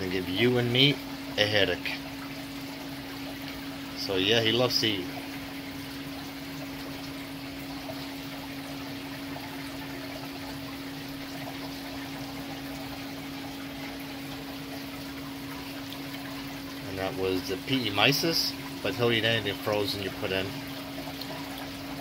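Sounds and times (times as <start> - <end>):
aquarium water rushing and bubbling: 0.0 - 22.0
constant steady hum: 0.0 - 22.0.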